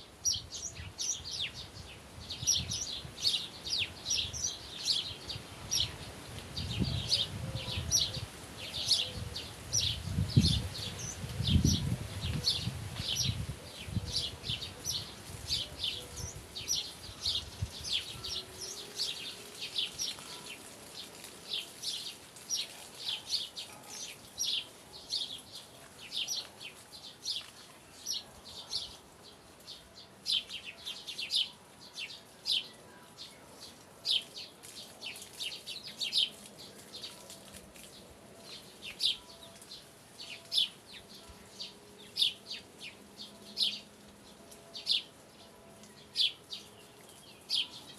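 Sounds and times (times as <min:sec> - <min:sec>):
small birds chirping: 0:00.2 - 0:47.9.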